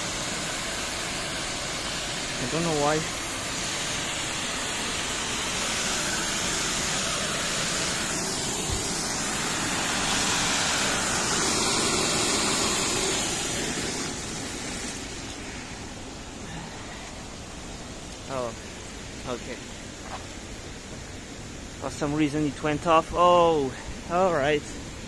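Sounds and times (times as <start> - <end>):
pressurized water spraying: 0.0 - 25.0.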